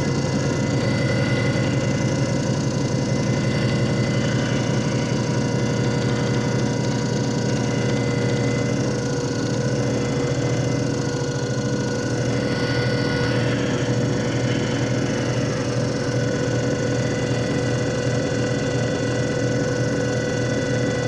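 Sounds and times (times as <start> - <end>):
electric motor humming and whining: 0.0 - 21.0.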